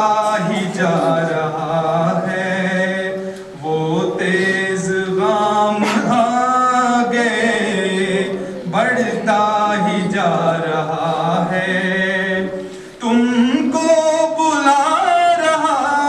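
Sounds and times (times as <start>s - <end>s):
men singing unaccompanied: 0.0s - 16.0s.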